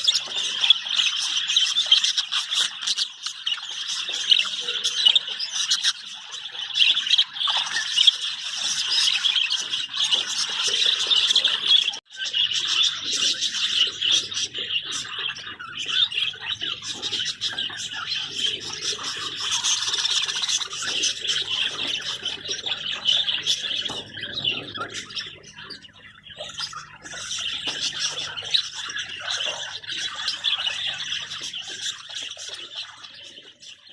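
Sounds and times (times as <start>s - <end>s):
budgerigars chattering and squawking: 0.0s - 33.9s.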